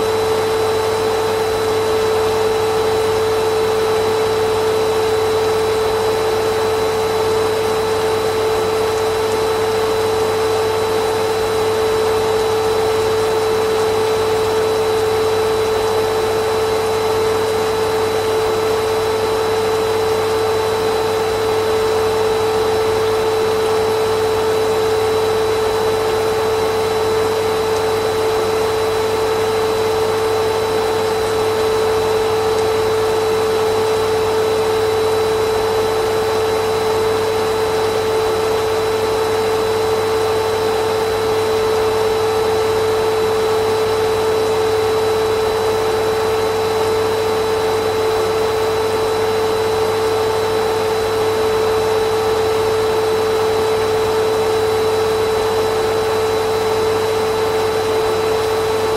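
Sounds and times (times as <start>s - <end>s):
vacuum cleaner motor running: 0.0s - 58.9s.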